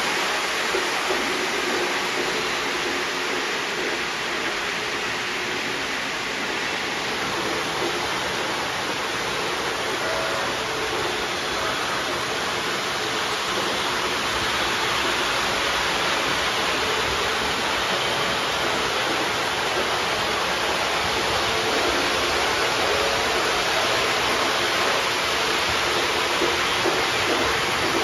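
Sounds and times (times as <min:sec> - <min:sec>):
model trains rolling on track: 0:00.0 - 0:28.0.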